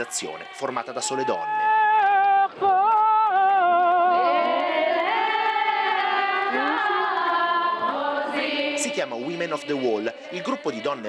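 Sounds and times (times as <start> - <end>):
women singing prayers: 0.0 - 11.0.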